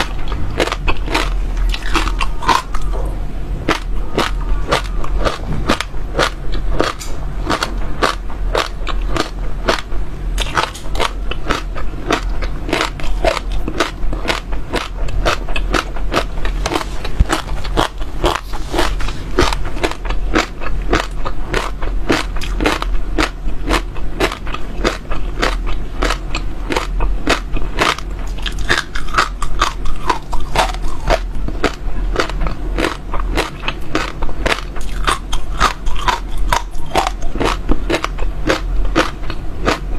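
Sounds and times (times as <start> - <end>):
seeds crunching while chewing: 0.0 - 3.0, 3.7 - 39.9
low hum: 0.0 - 39.9.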